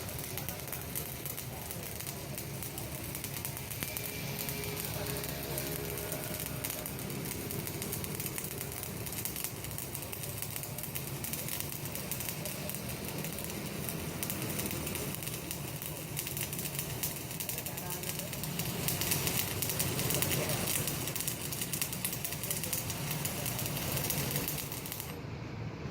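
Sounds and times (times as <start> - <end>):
welding arc crackling: 0.0 - 25.2.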